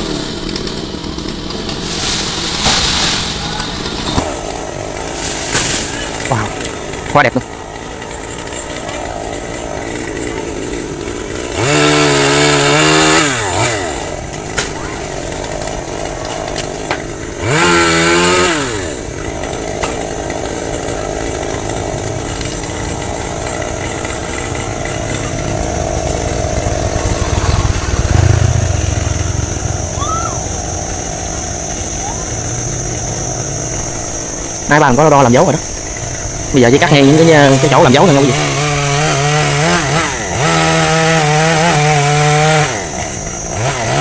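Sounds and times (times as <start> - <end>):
chainsaw revving: 0.0 - 2.6, 3.7 - 44.0
high steady whine: 0.0 - 44.0.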